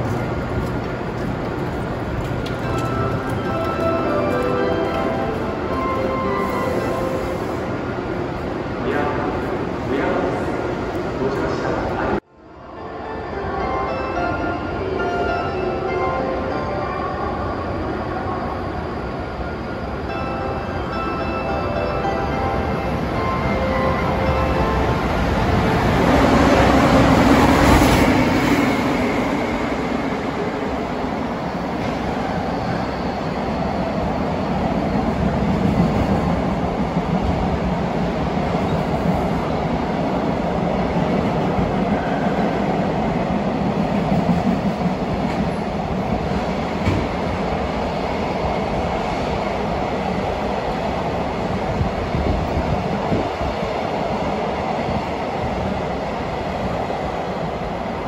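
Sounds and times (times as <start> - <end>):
electric locomotive passing: 0.0 - 58.0.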